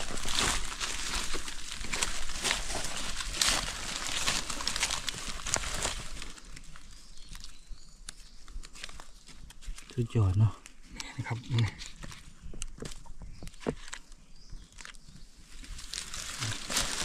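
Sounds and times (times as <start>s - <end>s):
dry leaves and twigs rustling: 0.0s - 17.0s.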